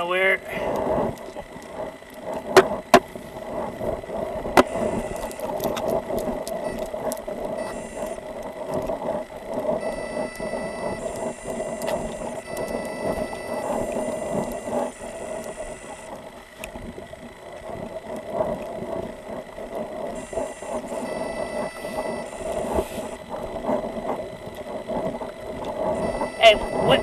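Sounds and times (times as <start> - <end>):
gear rubbing on microphone: 0.7 - 27.0.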